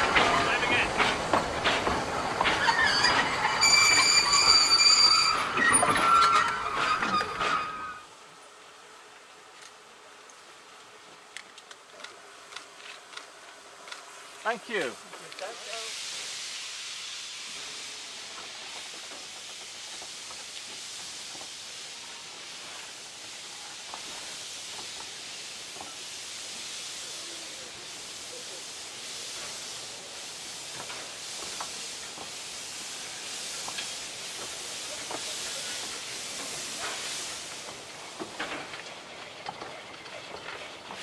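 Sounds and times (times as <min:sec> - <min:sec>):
steam locomotive hissing: 0:00.0 - 0:08.6, 0:12.0 - 0:41.0.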